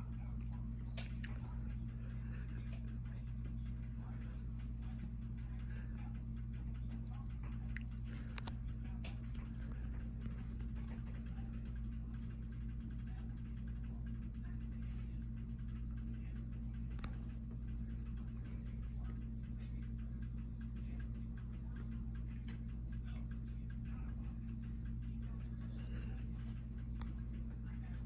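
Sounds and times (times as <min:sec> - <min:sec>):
ceiling fan motor hum: 0:00.0 - 0:28.0
fan mechanical ticking: 0:00.0 - 0:28.0.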